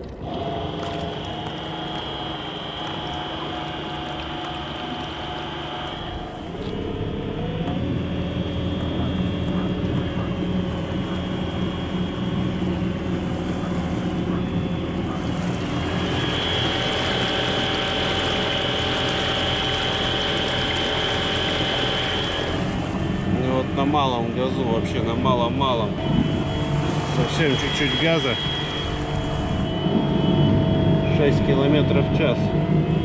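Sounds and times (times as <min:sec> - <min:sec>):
electric outboard motor whine: 0:00.0 - 0:33.0
mechanical hum: 0:00.0 - 0:33.0
high thin whine: 0:00.3 - 0:33.0.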